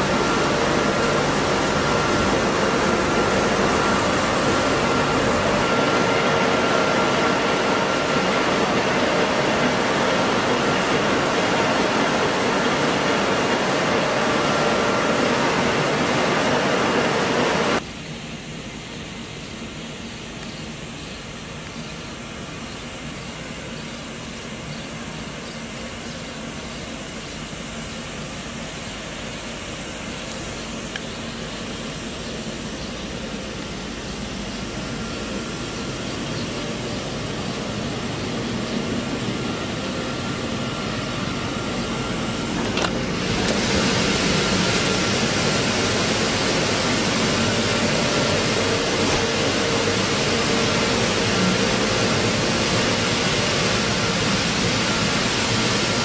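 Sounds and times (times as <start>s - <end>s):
flour mill machinery humming: 0.0s - 56.0s.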